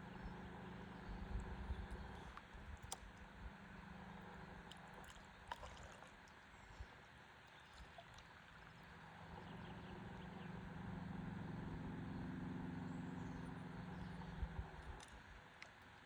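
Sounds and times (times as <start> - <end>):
faint engine hum: 0.0 - 16.0.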